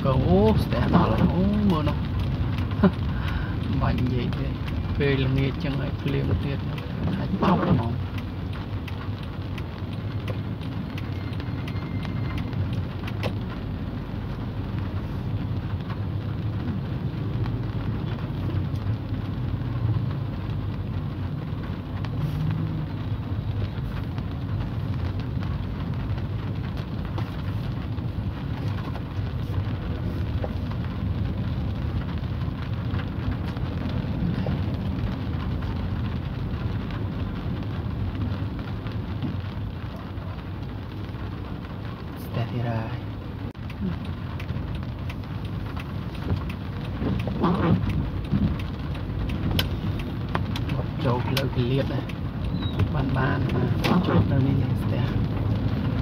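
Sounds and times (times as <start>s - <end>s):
low rumble: 0.0s - 56.0s
rain on car windshield: 0.0s - 56.0s
raindrop ticks: 0.0s - 56.0s.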